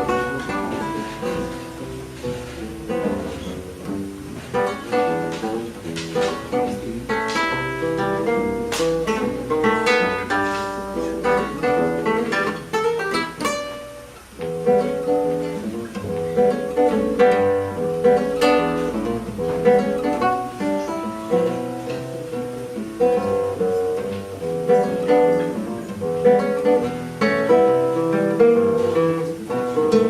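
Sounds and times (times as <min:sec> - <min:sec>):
acoustic guitar jazz piece: 0:00.0 - 0:30.0.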